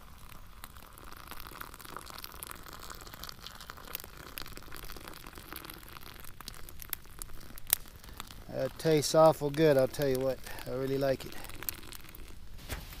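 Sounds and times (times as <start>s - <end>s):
water pouring into a cup: 0.0s - 12.6s.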